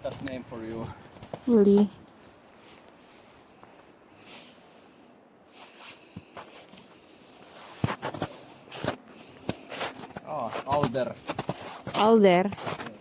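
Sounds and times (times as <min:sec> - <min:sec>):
footsteps in snow: 0:00.0 - 0:13.0.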